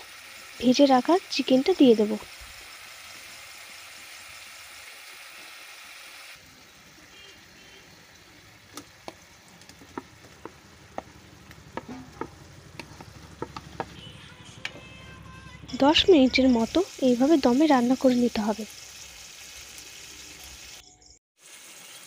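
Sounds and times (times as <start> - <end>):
gravy sizzling in a pan: 0.0 - 14.3, 15.8 - 22.0.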